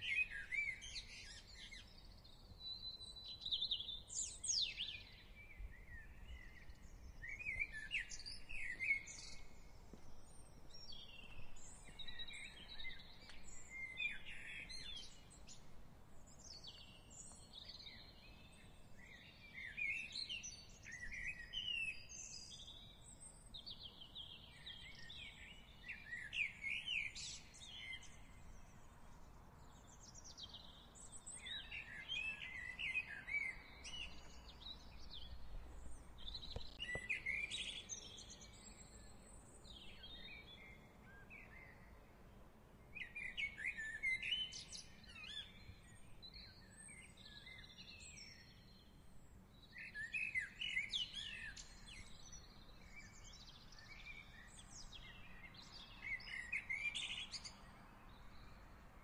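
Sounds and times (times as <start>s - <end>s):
songbirds singing and chirping: 0.0s - 59.0s.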